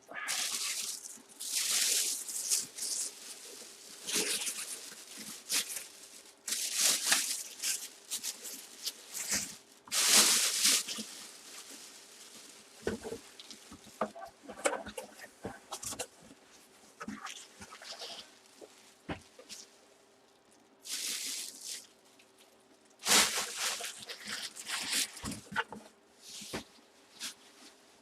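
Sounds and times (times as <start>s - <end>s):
packaging rustling and crinkling: 0.2s - 19.7s, 20.8s - 27.8s.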